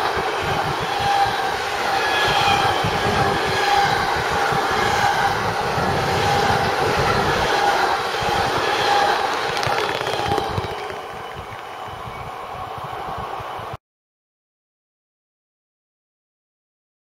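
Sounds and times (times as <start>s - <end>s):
train wheels rumbling on rail: 0.0s - 13.8s.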